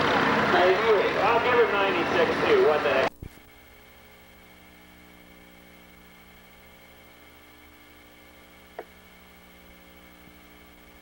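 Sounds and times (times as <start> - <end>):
faint electrical hum: 1.2 - 11.0.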